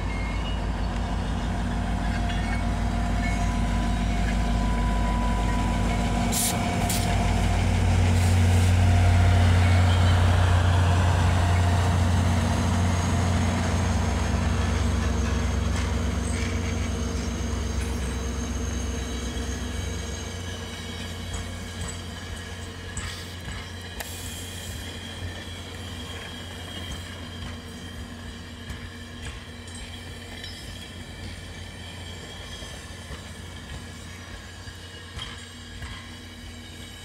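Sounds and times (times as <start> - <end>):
diesel locomotive engine droning: 0.0 - 37.0
train cars rumbling on rails: 0.0 - 37.0.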